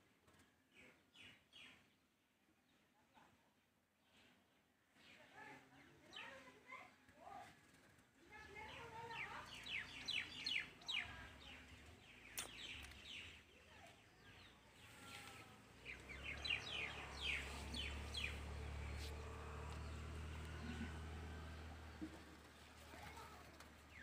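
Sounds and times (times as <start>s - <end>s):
small birds chirping: 0.3s - 2.9s, 4.0s - 24.0s.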